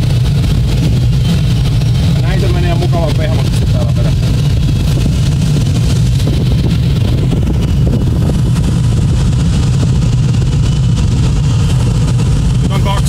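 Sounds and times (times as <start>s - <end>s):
low drone: 0.0s - 13.0s
rush of air in cockpit: 0.0s - 13.0s.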